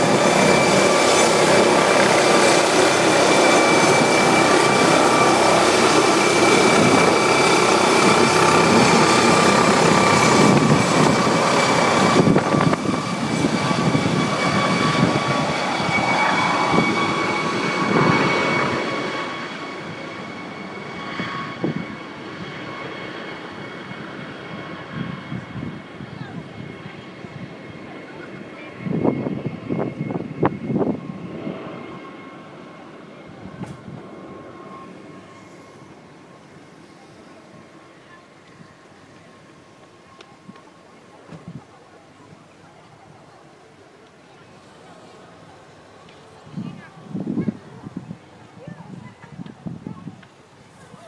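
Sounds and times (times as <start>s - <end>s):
helicopter rotor noise: 0.0s - 51.0s
helicopter turbine whine: 0.0s - 51.0s.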